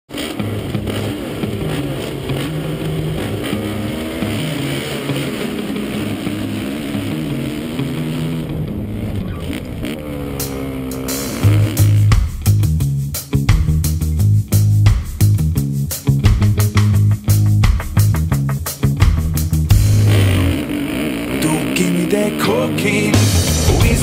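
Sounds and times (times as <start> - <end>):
dirt bike engines revving: 0.1 - 13.5, 15.6 - 24.0.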